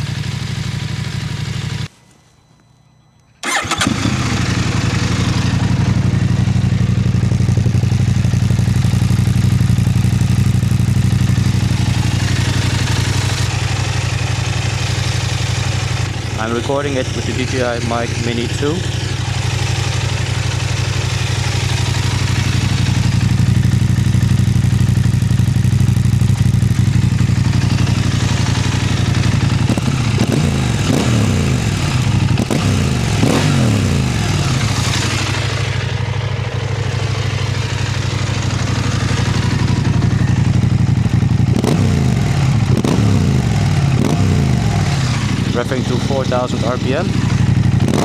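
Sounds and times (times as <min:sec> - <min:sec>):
motorcycle engine revving: 0:00.0 - 0:01.9, 0:03.4 - 0:48.0.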